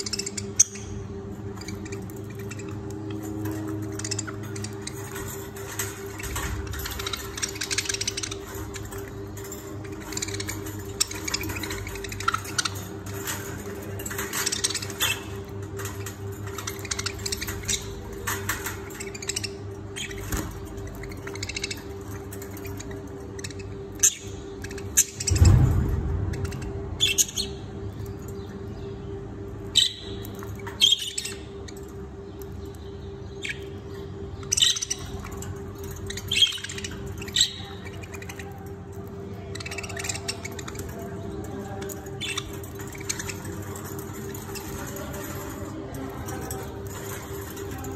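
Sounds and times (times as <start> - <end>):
budgerigars chirping: 0.0 - 25.7, 29.7 - 38.7, 39.4 - 45.6
low hum: 0.0 - 47.9.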